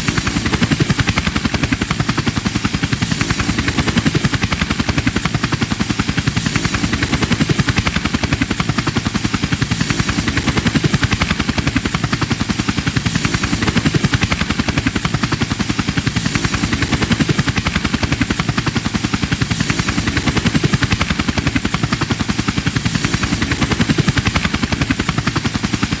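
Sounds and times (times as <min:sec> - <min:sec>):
helicopter rotor blades chopping: 0:00.0 - 0:26.0.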